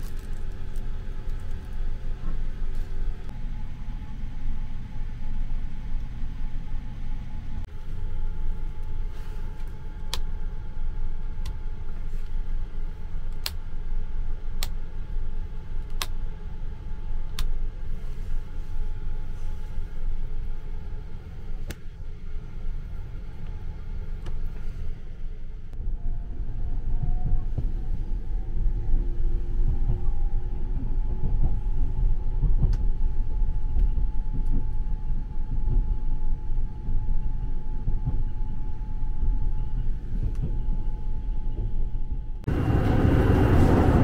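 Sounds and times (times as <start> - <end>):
train car low rumble and hum: 0.0 - 44.0.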